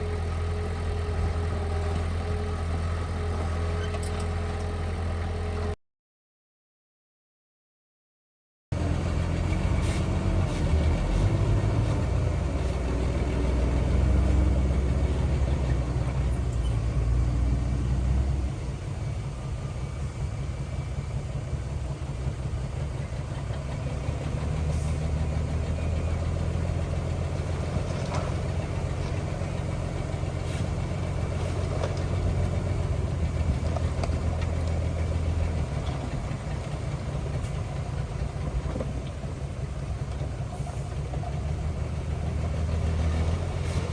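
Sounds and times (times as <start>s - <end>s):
heavy machine engine rumbling: 0.0s - 5.8s, 8.7s - 43.9s.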